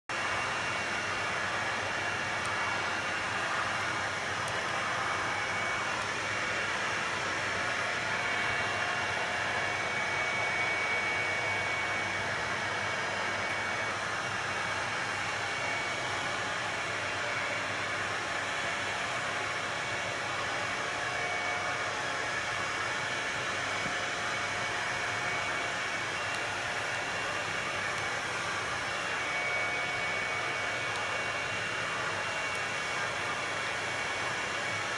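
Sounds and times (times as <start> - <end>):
vacuum cleaner running: 0.1 - 34.9.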